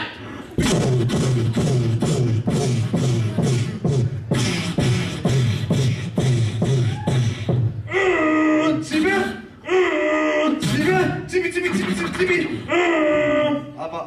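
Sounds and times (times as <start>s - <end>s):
beatboxing vocal beat: 0.0s - 13.8s.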